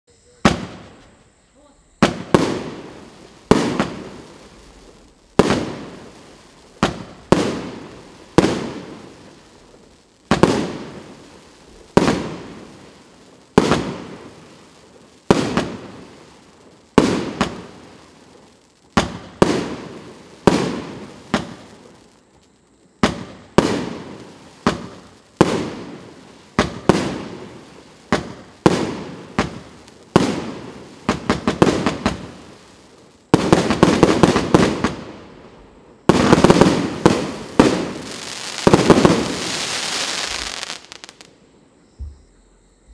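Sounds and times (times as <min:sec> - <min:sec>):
fireworks bangs with crackling: 0:00.2 - 0:41.4.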